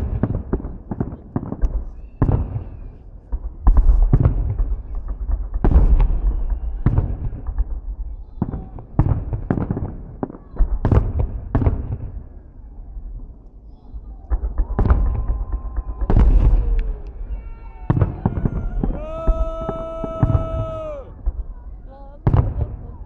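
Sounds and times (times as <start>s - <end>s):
fireworks bangs with rumble: 0.0s - 12.5s, 13.1s - 23.0s.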